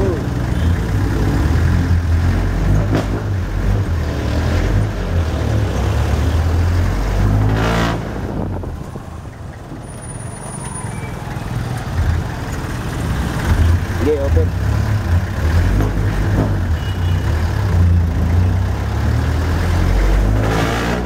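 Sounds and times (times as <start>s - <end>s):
road noise: 0.0s - 21.0s
vehicle engine rumbling: 0.0s - 21.0s.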